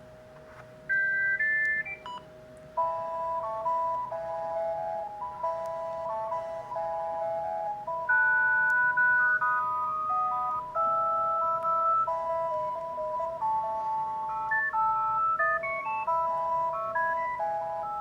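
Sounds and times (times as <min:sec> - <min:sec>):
mobile phone ringtone melody: 0:00.9 - 0:18.0.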